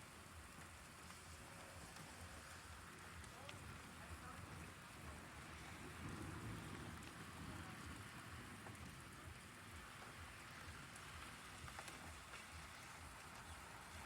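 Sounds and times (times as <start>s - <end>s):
sharp raindrop ticks: 0.0s - 14.0s
steady rain falling: 0.0s - 14.0s.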